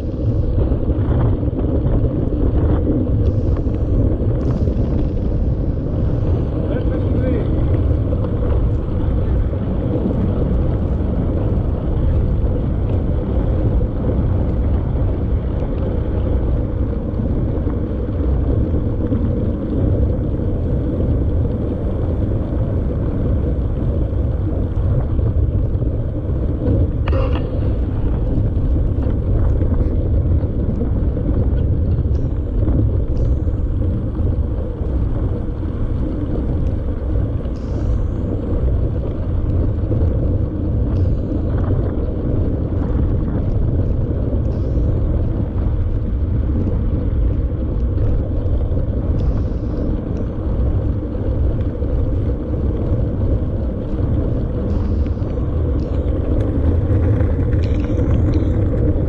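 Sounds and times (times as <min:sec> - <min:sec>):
bike rattles: 0:00.0 - 0:59.0
wind and riding rumble: 0:00.0 - 0:59.0.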